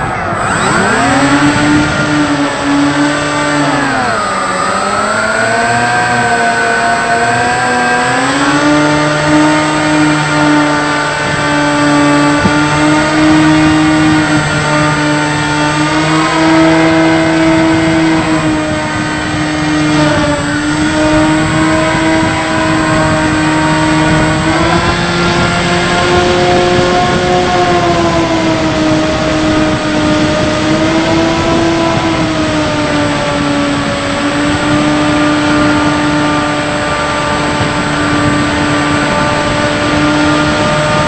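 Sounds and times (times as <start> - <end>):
model plane motor whine: 0.0 - 41.0.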